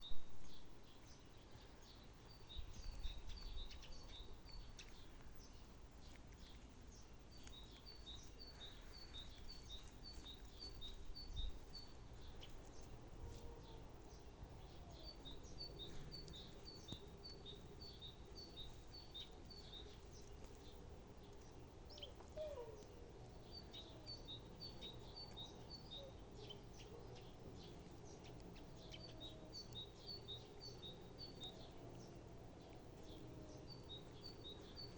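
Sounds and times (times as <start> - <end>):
faint outdoor background noise: 0.0 - 34.9.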